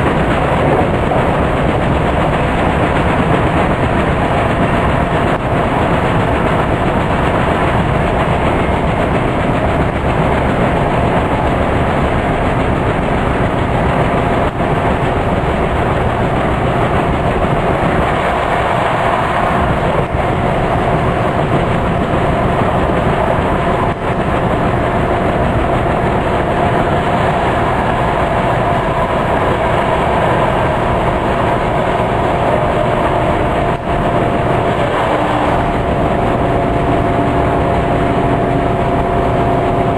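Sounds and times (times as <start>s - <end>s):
diesel engine running: 0.0s - 39.9s
steady whine: 0.0s - 39.9s
train wheels on rails: 0.0s - 39.9s.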